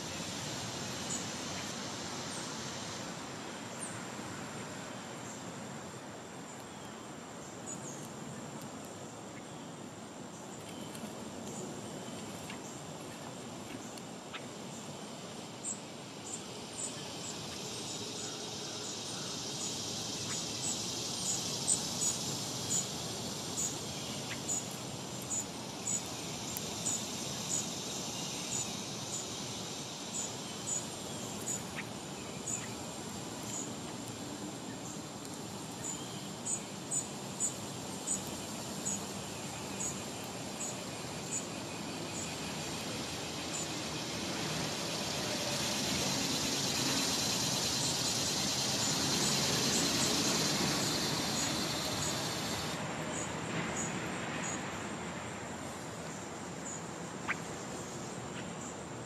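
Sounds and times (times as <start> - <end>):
insects hissing: 0.0 - 59.0.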